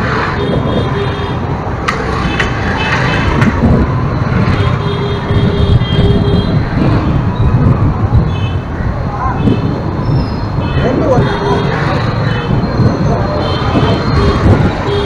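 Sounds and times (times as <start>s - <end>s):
street traffic rumble: 0.0s - 15.0s
wind on microphone: 0.0s - 15.0s.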